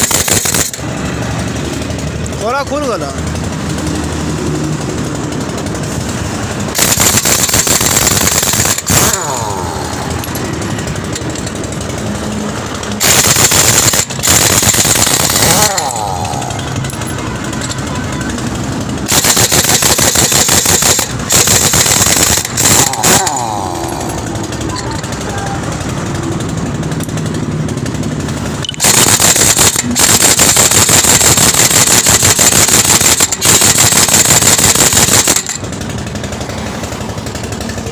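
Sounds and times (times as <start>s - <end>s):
pneumatic impact wrench hammering: 0.0s - 37.9s
steady engine: 0.0s - 37.9s
tool spinning down whine: 3.7s - 17.8s, 18.8s - 35.8s.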